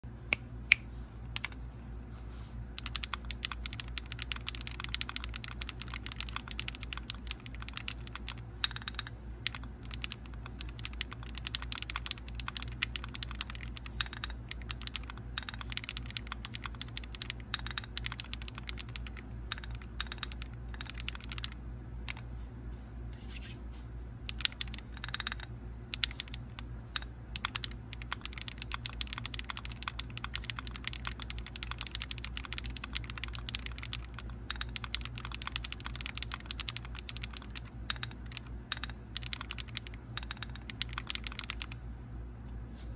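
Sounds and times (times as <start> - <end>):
mechanical keyboard typing: 2.8 - 22.2, 24.3 - 41.8.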